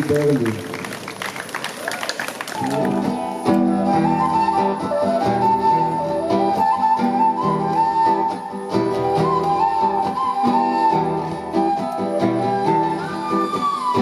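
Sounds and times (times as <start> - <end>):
flute melody: 2.6 - 14.0
plucked guitar: 2.6 - 14.0.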